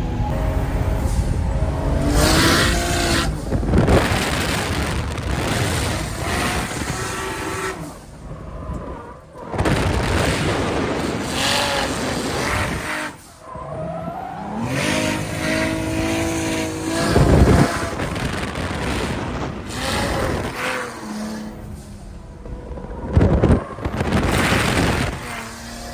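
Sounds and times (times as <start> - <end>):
car engines revving: 0.0 - 25.9.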